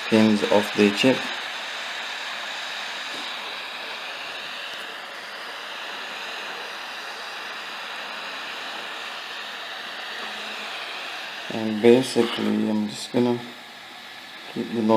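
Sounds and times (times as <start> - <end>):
hot air nozzle hissing: 0.0 - 14.9.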